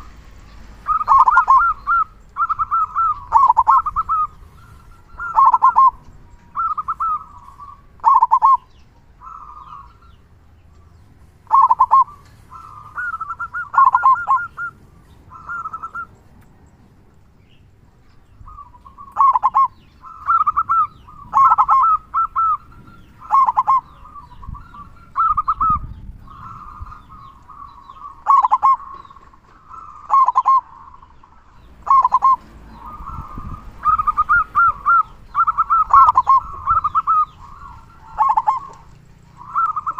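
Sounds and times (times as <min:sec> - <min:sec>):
dove cooing: 0:00.8 - 0:10.2, 0:11.4 - 0:16.2, 0:18.4 - 0:39.9.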